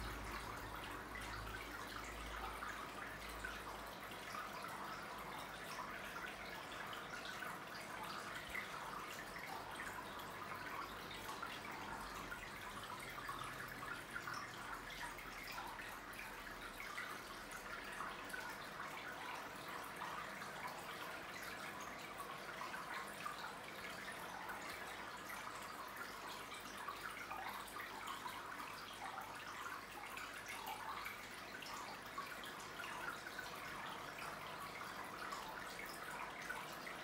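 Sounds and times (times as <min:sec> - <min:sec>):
water trickling into aquarium: 0:00.0 - 0:37.0.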